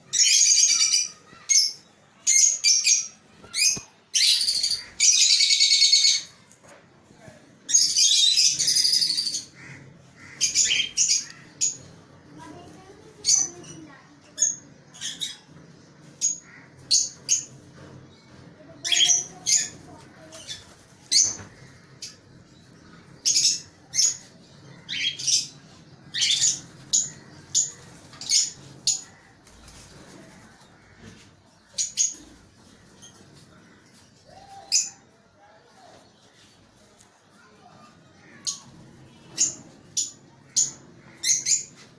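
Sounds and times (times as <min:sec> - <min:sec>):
birds chirping shrilly: 0:00.0 - 0:06.4, 0:07.7 - 0:35.2.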